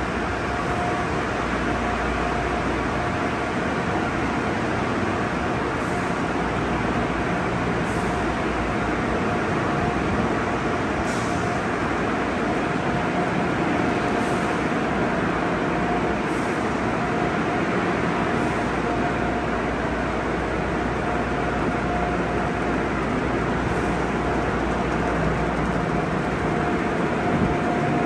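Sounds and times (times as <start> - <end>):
car wash machinery noise: 0.0 - 28.0.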